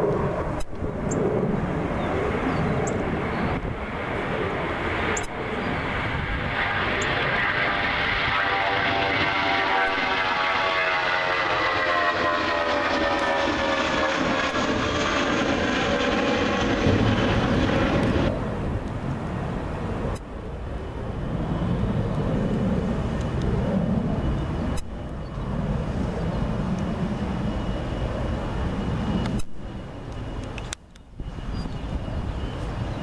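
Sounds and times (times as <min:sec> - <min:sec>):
jet engines whining: 0:00.0 - 0:33.0
jet rumble: 0:00.0 - 0:33.0.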